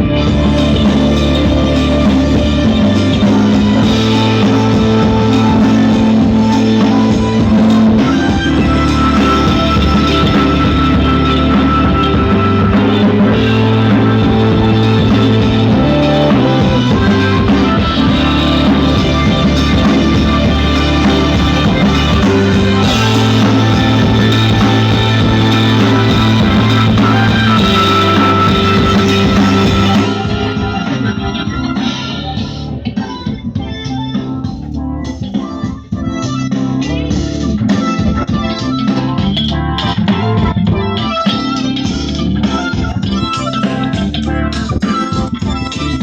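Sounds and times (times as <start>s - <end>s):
loud music with bass and guitar: 0.0s - 46.0s.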